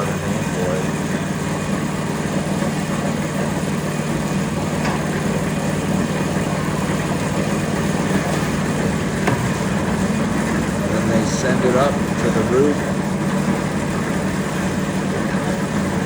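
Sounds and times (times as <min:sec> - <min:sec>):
concrete mixer engine humming: 0:00.0 - 0:16.0.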